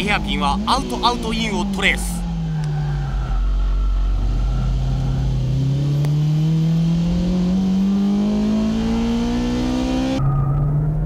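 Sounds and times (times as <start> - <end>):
car engine revving high: 0.0 - 10.2
lower steady engine note: 0.0 - 11.0.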